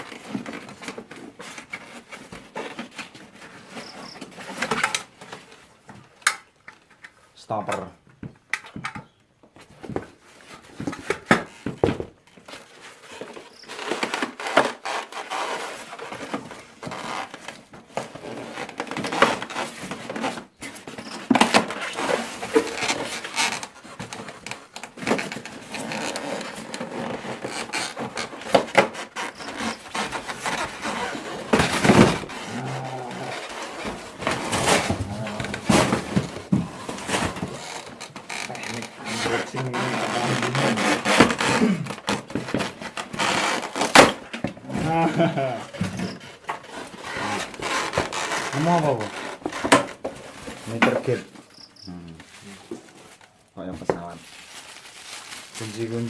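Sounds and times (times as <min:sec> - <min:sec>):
packaging rustling and scraping: 0:00.0 - 0:06.2, 0:09.6 - 0:56.0.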